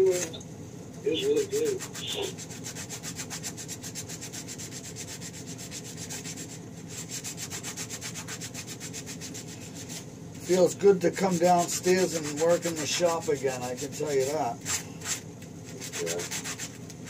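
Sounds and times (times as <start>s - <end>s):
fast hand scrubbing: 1.2s - 10.7s, 11.3s - 16.8s.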